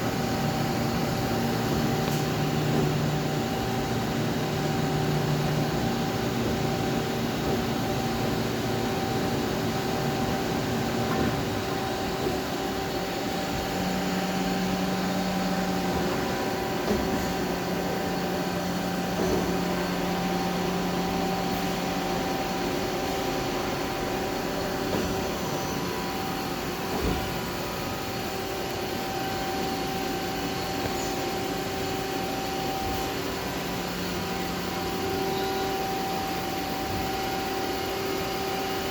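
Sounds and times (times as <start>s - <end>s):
machine hum with motor tones: 0.0s - 38.9s.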